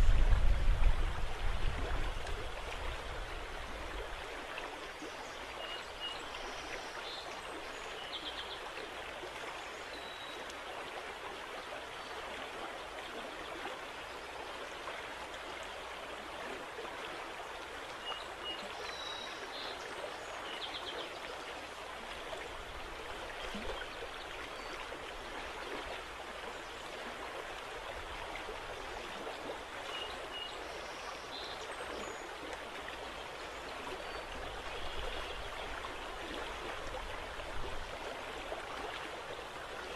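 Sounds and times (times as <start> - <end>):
river water lapping: 0.0 - 39.9.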